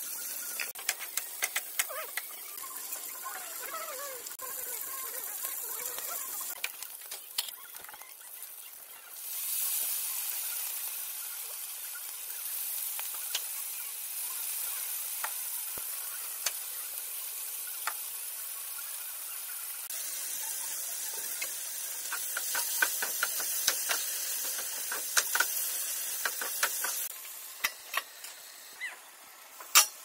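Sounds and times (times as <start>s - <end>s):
food frying in hot oil: 0.0s - 30.0s
loud sizzle: 0.0s - 30.0s.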